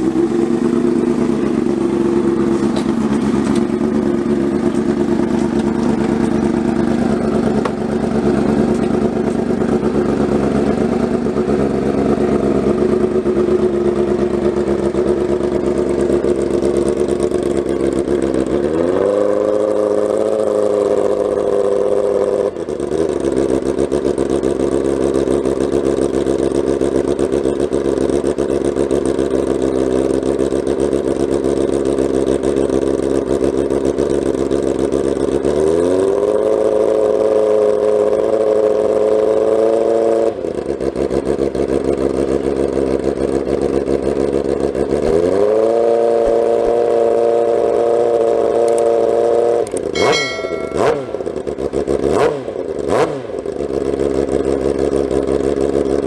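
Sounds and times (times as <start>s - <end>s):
motorcycle engine revving: 0.0s - 30.1s, 33.3s - 56.0s
motorcycle engine idling: 0.0s - 39.5s, 40.3s - 45.3s, 46.0s - 56.0s.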